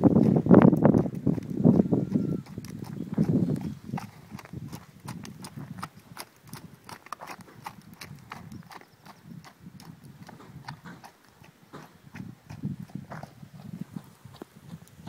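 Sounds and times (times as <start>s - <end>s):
horse hooves on dirt: 0.0s - 15.0s.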